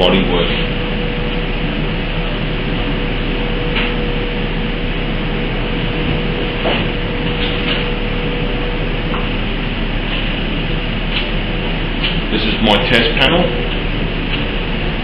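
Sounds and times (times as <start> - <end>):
constant hum: 0.0 - 15.0
machine noise: 0.0 - 15.0.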